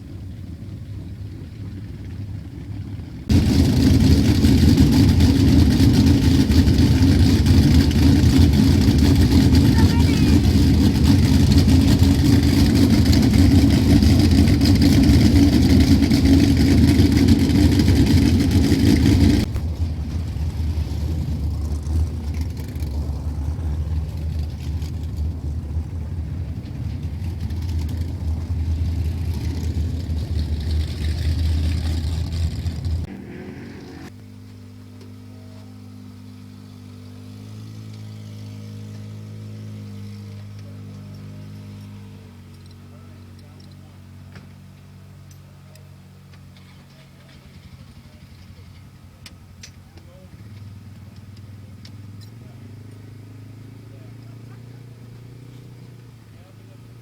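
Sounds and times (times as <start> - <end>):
race car engines running: 0.0 - 57.0.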